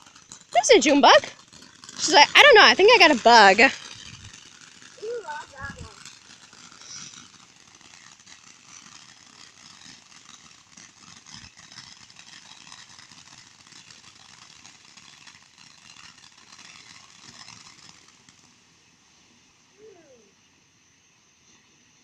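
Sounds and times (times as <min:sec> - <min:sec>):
firework hissing and crackling: 0:00.0 - 0:22.0.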